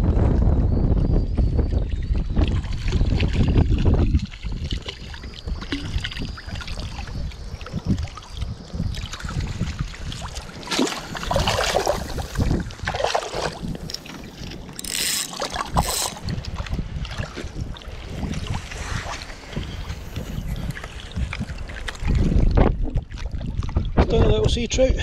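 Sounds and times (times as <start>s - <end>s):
wind buffeting microphone: 0.0s - 25.0s
fish thrashing and splashing: 2.2s - 24.0s.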